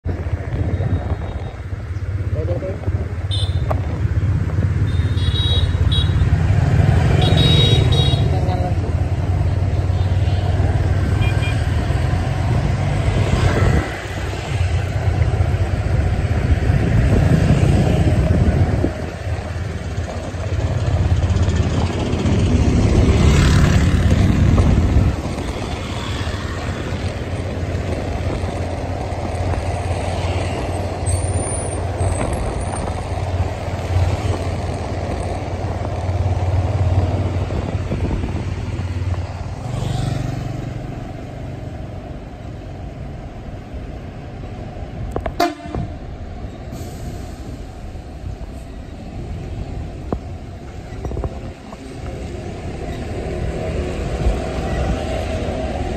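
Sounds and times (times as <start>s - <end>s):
diesel bus engines rumbling: 0.0s - 55.9s.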